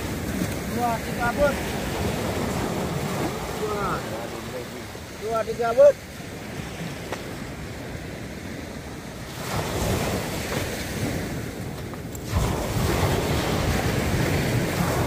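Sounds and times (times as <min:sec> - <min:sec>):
surf breaking on sandy beach: 0:00.0 - 0:15.0
wind buffeting microphone: 0:00.0 - 0:15.0.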